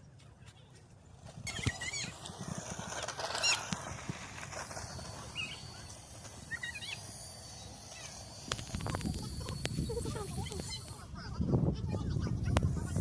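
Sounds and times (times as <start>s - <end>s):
birds chirping: 0.0s - 11.1s.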